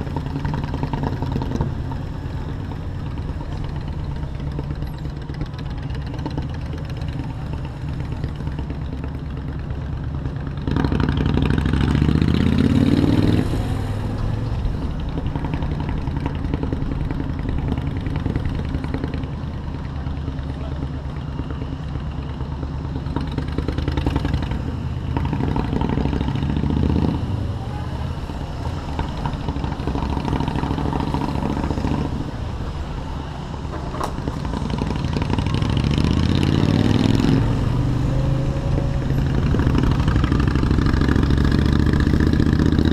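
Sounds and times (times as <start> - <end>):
city traffic: 0.0 - 42.9
motorcycle engine revving: 0.0 - 42.9.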